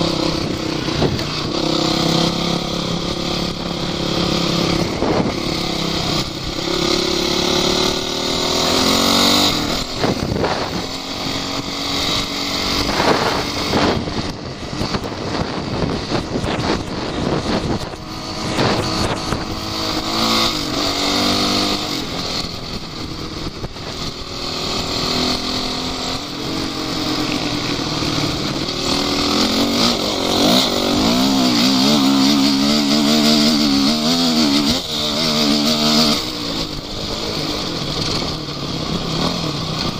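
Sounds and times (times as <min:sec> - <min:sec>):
off-road engines revving: 0:00.0 - 0:39.9.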